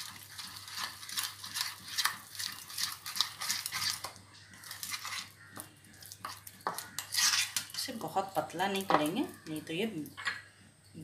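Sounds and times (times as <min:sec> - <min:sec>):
fingers mixing wet batter: 0:00.0 - 0:10.6.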